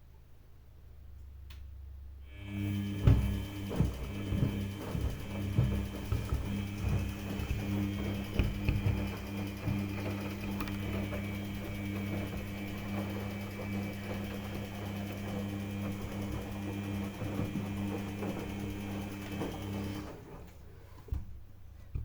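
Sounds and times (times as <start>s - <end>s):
washing machine motor humming: 2.3s - 22.0s.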